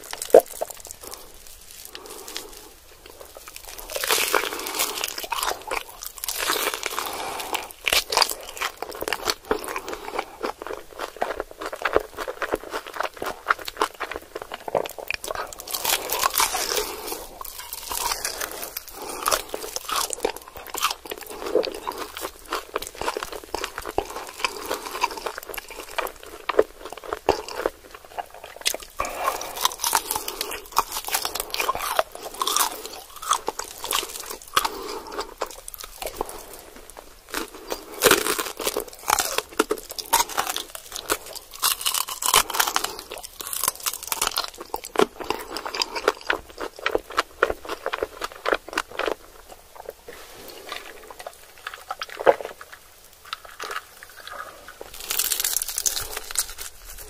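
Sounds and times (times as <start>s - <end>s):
crunching fried chicken: 0.0s - 57.0s
wet chewing: 0.0s - 57.0s.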